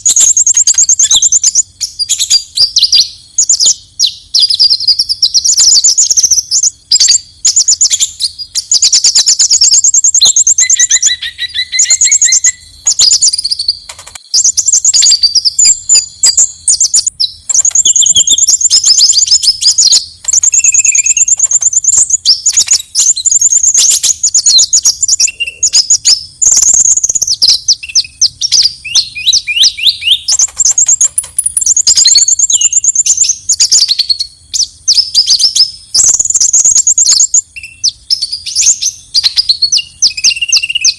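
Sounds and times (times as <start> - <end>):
songbird trilling and chattering: 0.0 - 40.9.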